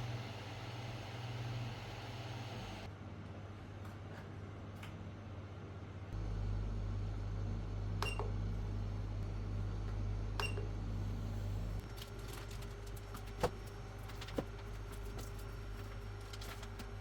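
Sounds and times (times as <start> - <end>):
printer motor and fan hum: 0.0 - 3.8, 6.2 - 17.0.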